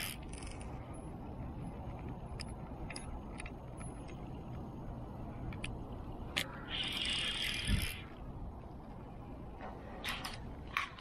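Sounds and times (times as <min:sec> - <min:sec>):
low rumble of reel: 0:00.0 - 0:11.0.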